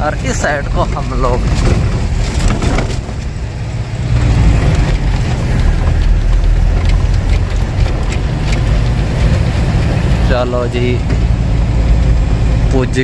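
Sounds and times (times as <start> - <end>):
diesel truck engine rumble: 0.0 - 13.0
road noise: 0.0 - 13.0.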